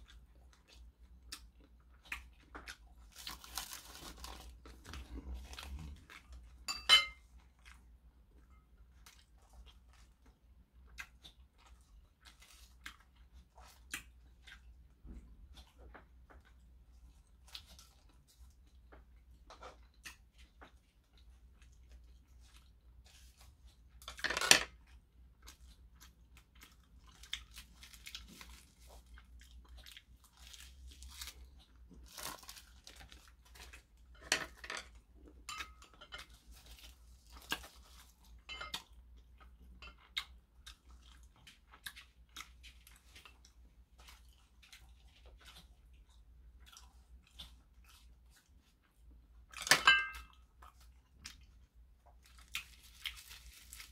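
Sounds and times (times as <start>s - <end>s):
man chewing food: 0.0s - 53.9s.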